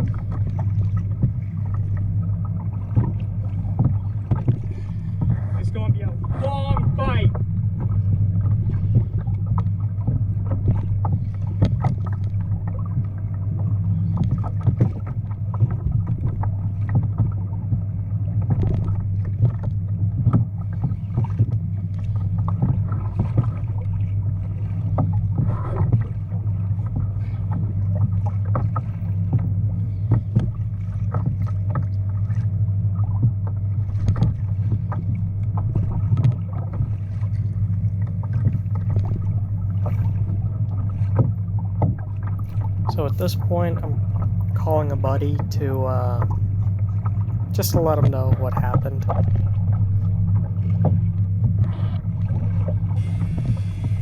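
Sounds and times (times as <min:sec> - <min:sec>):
steady low rumble: 0:00.0 - 0:54.0
water slapping against kayak hull: 0:00.0 - 0:54.0.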